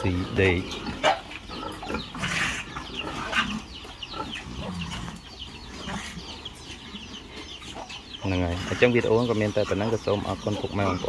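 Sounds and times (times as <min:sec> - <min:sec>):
chickens clucking and peeping: 0:00.0 - 0:11.0
pigs grunting: 0:00.0 - 0:11.0.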